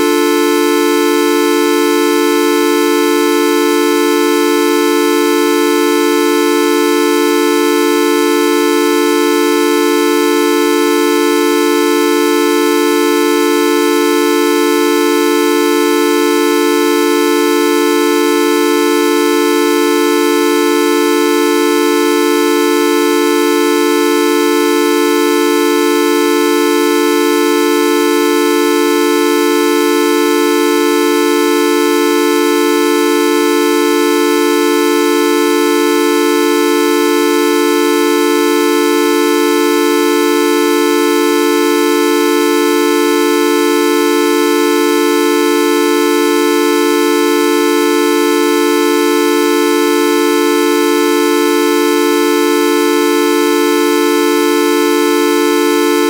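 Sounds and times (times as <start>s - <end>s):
loud held tone: 0.0s - 56.0s.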